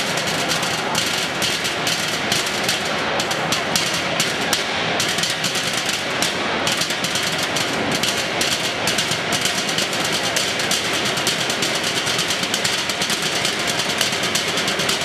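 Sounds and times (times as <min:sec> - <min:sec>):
sticks drumming on trash cans: 0:00.0 - 0:15.0.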